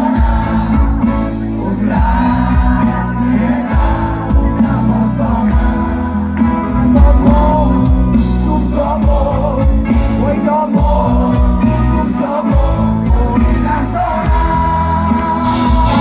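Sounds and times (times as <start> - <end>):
band music with singing: 0.0 - 16.0.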